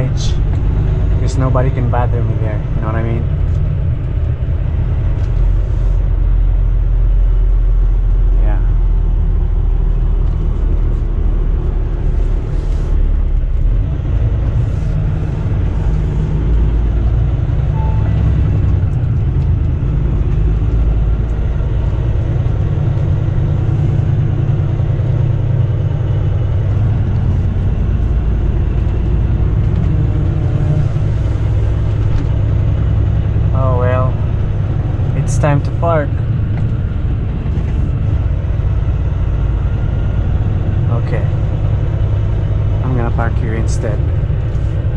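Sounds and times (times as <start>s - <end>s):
truck diesel engine rumbling: 0.0s - 44.9s.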